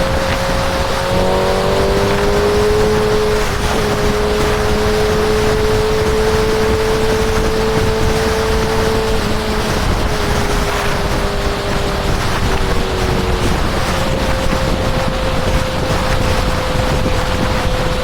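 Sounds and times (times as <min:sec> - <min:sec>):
motorcycle engine cruising: 0:00.0 - 0:18.0
wind rush on microphone: 0:00.0 - 0:18.0.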